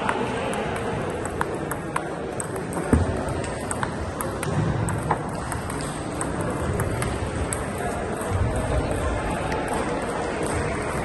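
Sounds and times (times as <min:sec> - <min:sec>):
crowd hubbub in hall: 0:00.0 - 0:11.0
table tennis ball clicks: 0:00.0 - 0:11.0.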